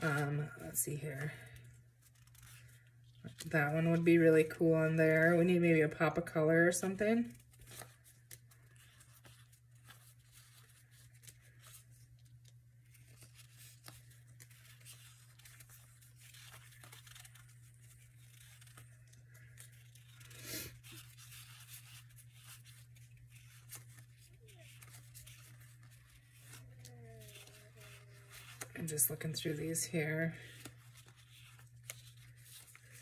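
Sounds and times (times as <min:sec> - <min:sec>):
paper strips rustling: 0:00.0 - 0:04.4, 0:06.8 - 0:33.0
low steady hum: 0:00.0 - 0:33.0.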